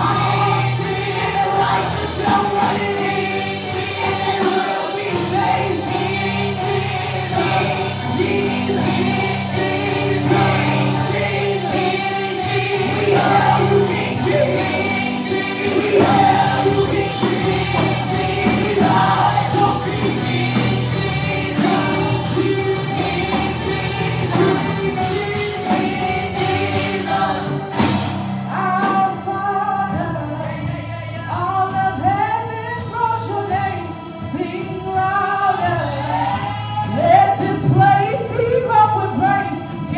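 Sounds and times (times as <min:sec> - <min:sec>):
choir singing with accompaniment: 0:00.0 - 0:39.9.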